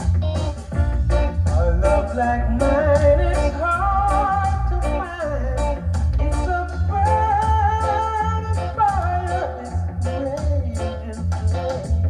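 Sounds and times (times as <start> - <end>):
pulsing bass: 0.0 - 12.0
steady drum beat: 0.0 - 12.0
person singing: 1.0 - 12.0.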